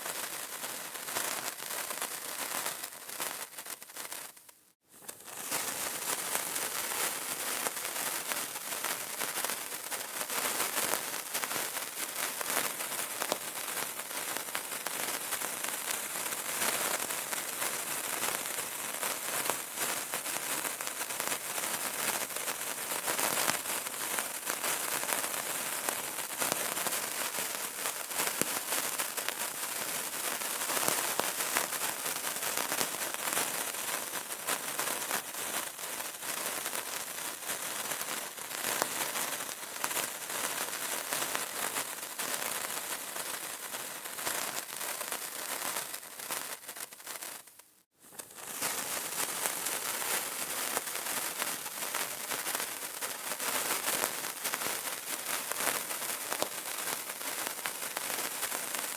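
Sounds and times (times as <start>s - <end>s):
candle crackling: 0.0s - 37.2s, 38.1s - 58.9s.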